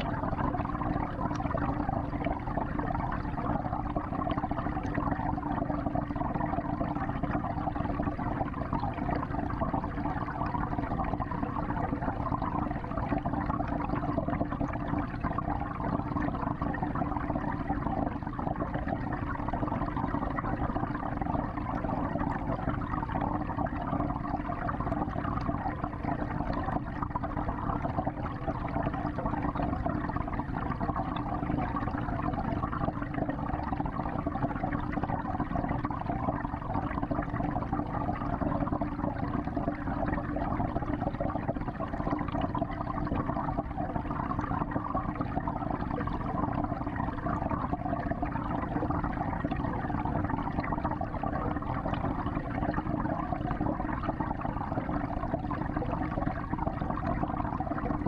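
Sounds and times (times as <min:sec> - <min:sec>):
water churning in aquarium: 0:00.0 - 0:58.0.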